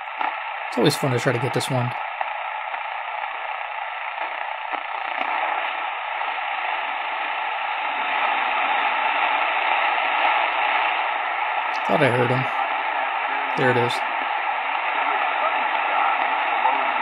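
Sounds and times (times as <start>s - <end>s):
radio static and hiss: 0.0s - 17.0s
weak distant radio station: 0.3s - 2.0s, 3.2s - 17.0s.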